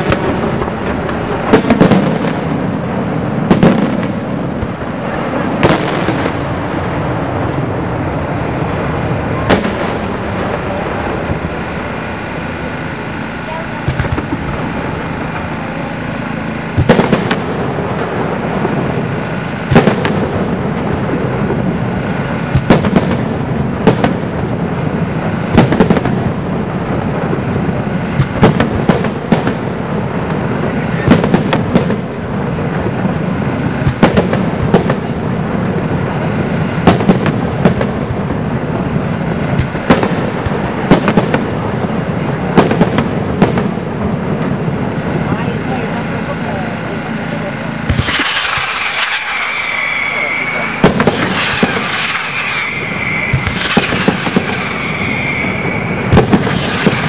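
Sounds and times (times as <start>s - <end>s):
firework bangs: 0.0s - 57.0s
fireworks rumble and crackle: 0.0s - 57.0s.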